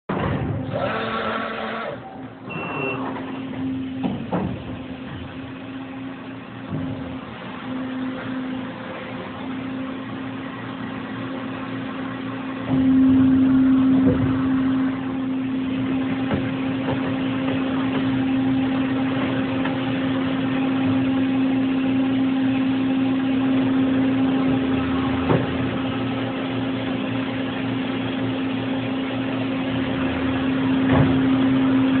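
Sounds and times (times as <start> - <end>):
machining center humming: 0.1 - 32.0.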